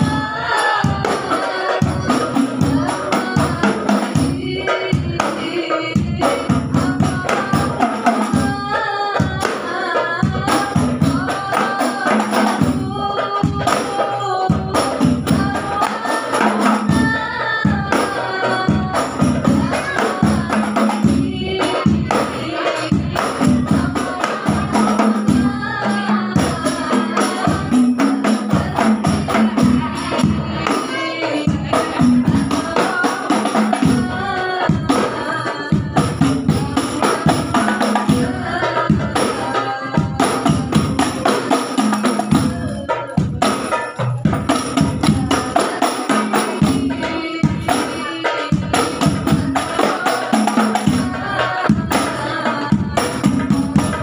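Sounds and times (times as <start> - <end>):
hand-struck frame drums: 0.0 - 54.0
voices singing devotional music: 0.0 - 54.0.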